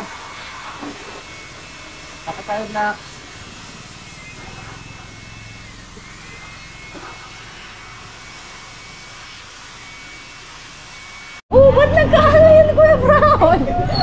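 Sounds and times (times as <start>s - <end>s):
faint high whine: 0.0s - 11.4s
garden hose spraying water: 0.0s - 11.4s.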